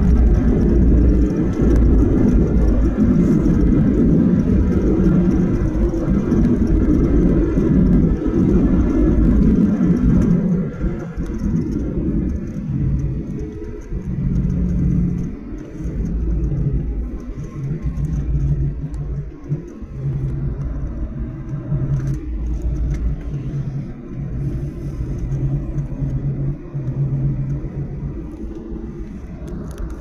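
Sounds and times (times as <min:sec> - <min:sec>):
airplane cabin rumble: 0:00.0 - 0:30.0
jet engines humming: 0:00.0 - 0:30.0.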